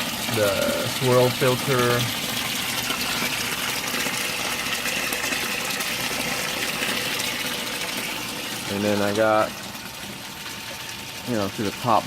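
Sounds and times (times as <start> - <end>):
water gushing and splashing: 0.0 - 12.0.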